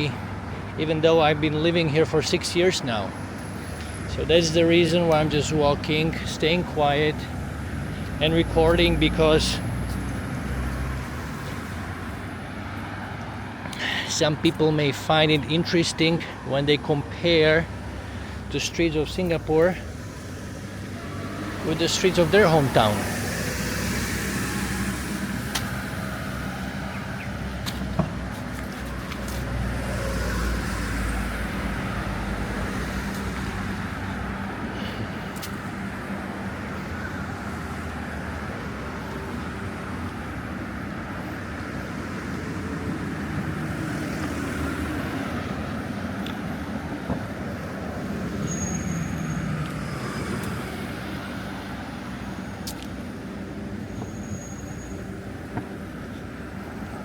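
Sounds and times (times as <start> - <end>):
hum of passing cars: 0.0 - 57.0
vehicles passing close: 0.0 - 57.0.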